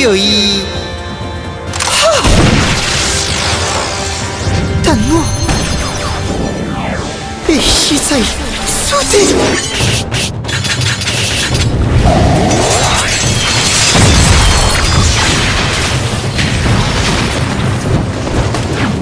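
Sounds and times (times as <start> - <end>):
dramatic soundtrack music: 0.0 - 19.0.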